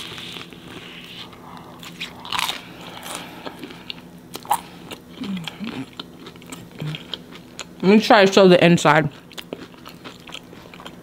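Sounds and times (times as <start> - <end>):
chewing crispy crust: 0.0 - 7.8, 9.0 - 11.0.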